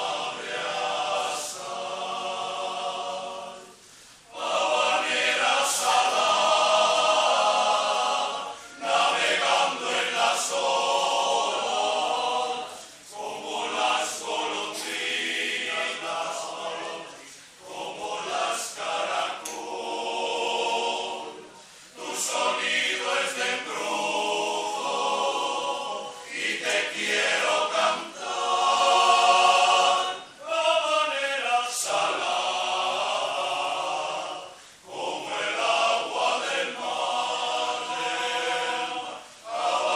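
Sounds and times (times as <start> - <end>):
men's choir singing unaccompanied: 0.0 - 39.9.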